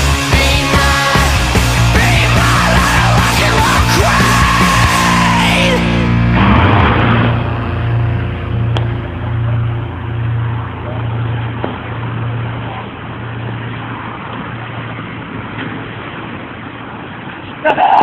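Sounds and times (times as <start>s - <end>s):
low pulsing hum: 0.0s - 17.4s
car engine rumble: 0.0s - 17.7s.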